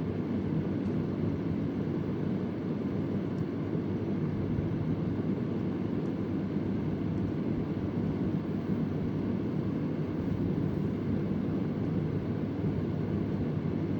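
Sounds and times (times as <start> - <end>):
electric fan running: 0.0 - 13.9.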